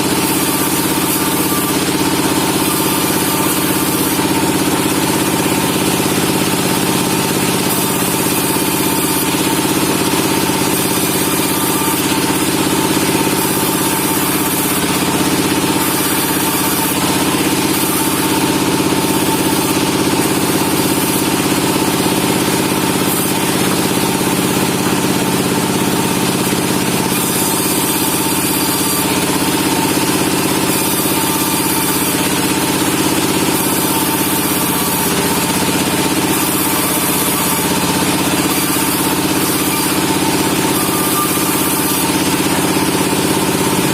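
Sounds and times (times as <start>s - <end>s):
sawmill machinery hum: 0.0s - 43.9s.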